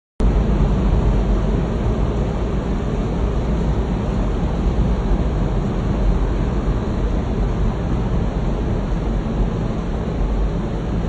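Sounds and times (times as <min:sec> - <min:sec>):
fan air rushing: 0:00.2 - 0:11.0.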